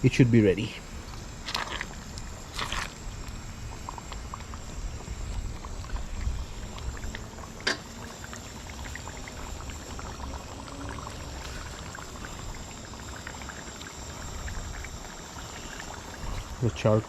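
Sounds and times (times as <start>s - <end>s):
curry bubbling in pot: 0.3s - 17.0s.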